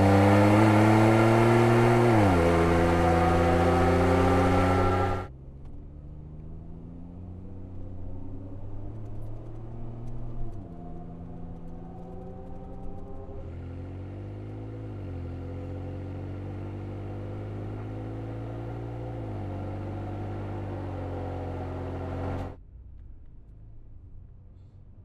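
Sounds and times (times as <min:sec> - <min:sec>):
truck engine accelerating hard: 0:00.0 - 0:22.6
low engine hum: 0:00.0 - 0:25.0.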